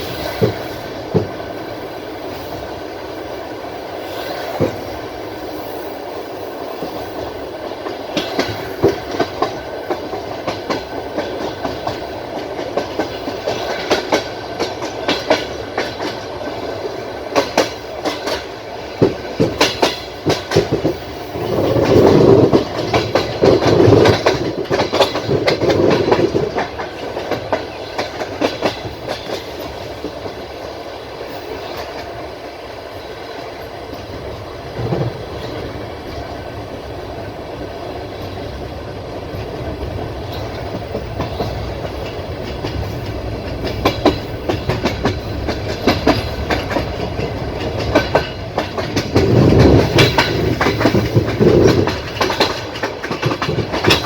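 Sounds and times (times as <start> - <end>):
train carriage rumble: 0.0 - 54.0
wheels clacking on rail joints: 0.0 - 54.0.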